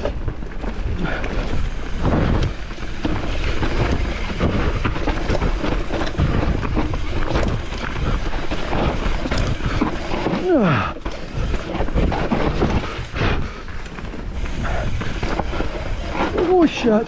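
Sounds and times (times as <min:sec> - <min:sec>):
bike rattling: 0:00.0 - 0:17.0
tyres rolling over dirt and rocks: 0:00.0 - 0:17.0.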